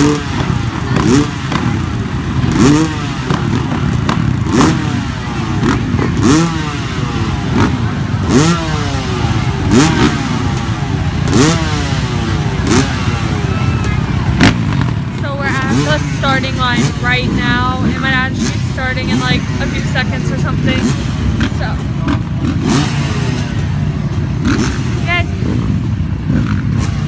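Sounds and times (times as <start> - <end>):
dirt bike engines revving: 0.0 - 27.0
other bikes running: 0.0 - 27.0.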